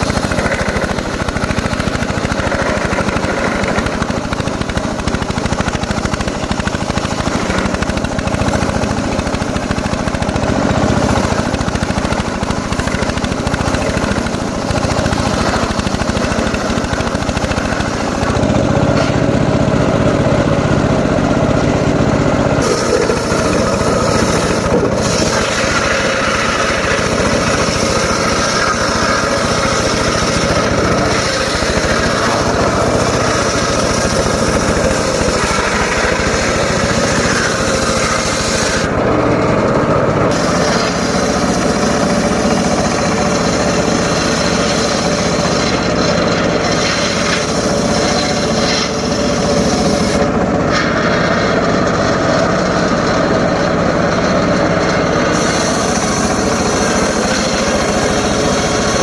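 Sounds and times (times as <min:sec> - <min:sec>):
circular saw cutting logs: 0:00.0 - 0:59.0.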